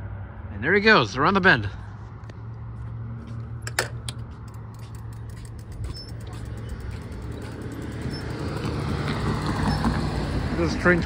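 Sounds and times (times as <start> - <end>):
vehicle engine running: 1.8 - 11.0.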